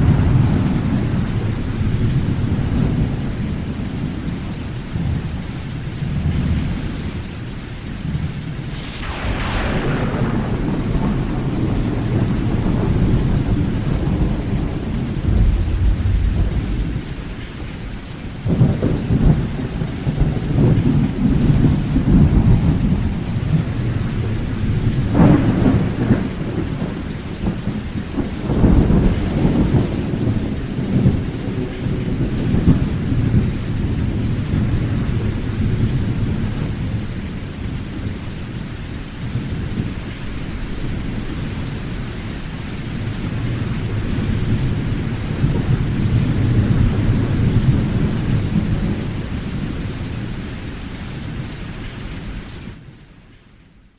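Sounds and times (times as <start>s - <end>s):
rolling thunder: 0.0s - 5.3s, 8.0s - 38.3s, 39.4s - 50.5s
steady rain: 0.0s - 53.9s.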